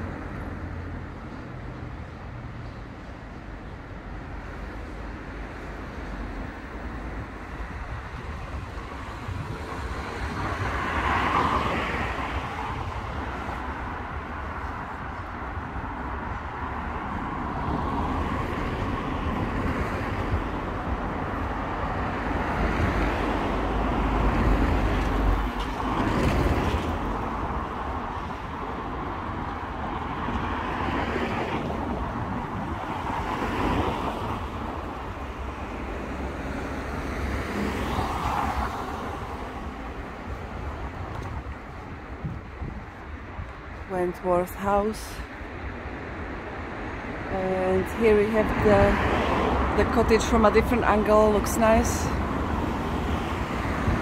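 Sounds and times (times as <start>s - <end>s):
cars passing: 0.0s - 54.0s
wind rumble on microphone: 3.5s - 54.0s.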